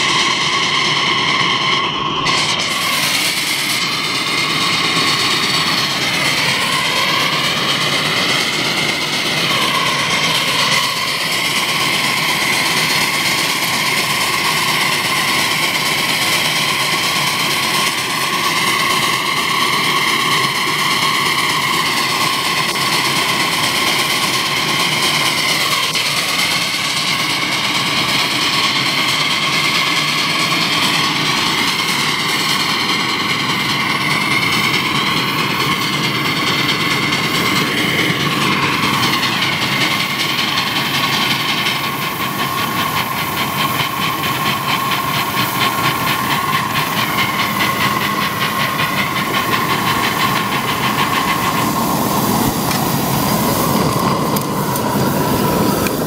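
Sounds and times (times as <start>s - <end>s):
steam hissing and rushing: 0.0s - 56.0s.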